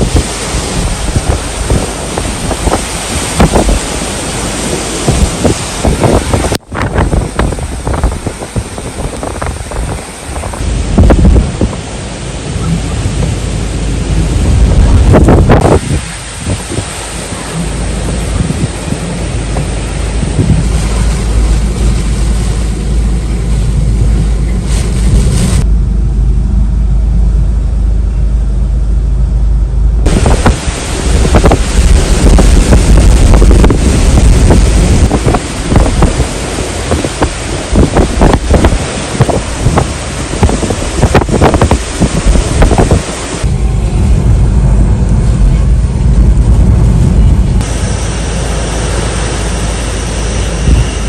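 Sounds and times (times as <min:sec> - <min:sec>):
strong wind on microphone: 0:00.0 - 0:51.0.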